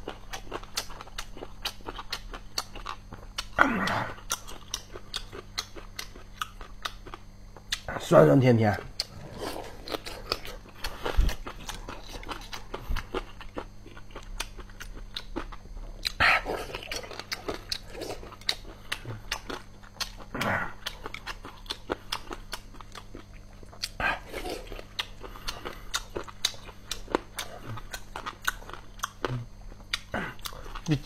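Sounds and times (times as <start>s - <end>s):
chewing with crisp crunches: 0.0s - 31.0s.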